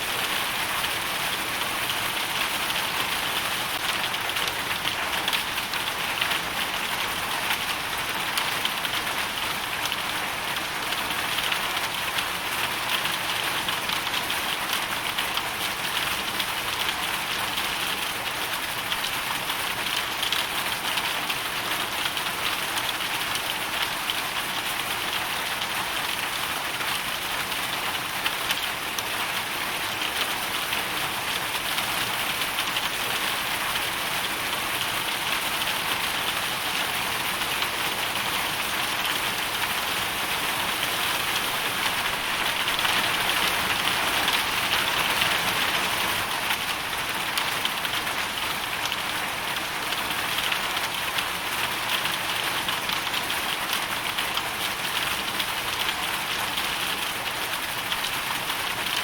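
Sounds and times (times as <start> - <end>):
hail and rain falling: 0.0 - 59.0.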